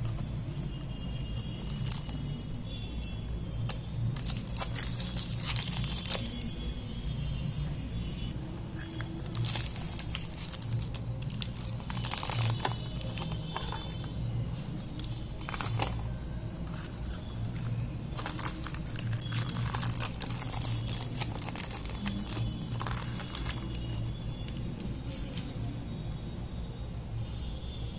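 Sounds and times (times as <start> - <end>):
foil wrapper crinkling and tearing: 0.0 - 6.7, 8.8 - 25.5.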